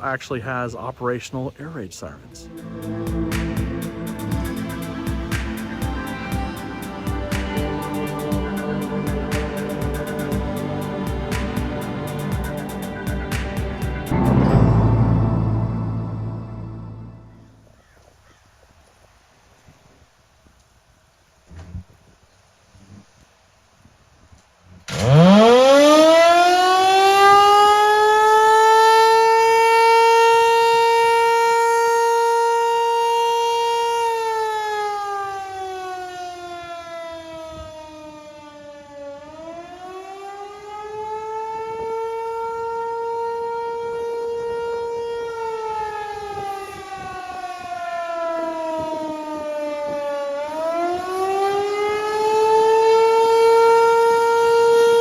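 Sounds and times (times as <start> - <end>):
civil defense siren wailing: 2.4 - 17.7, 24.9 - 55.0.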